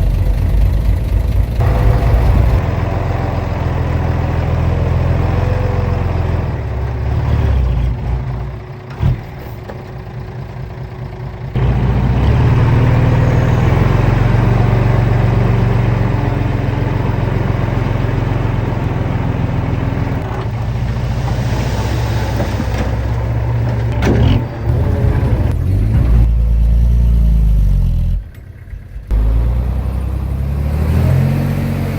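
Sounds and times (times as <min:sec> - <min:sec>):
heavy diesel engine running: 0:00.0 - 0:31.9.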